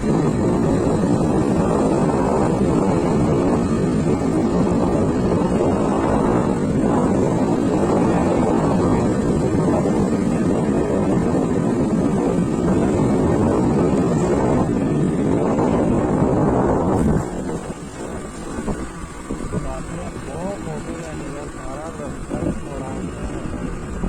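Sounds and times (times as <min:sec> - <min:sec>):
motor scooter running: 0:00.0 - 0:24.0
wind on microphone: 0:00.0 - 0:24.0.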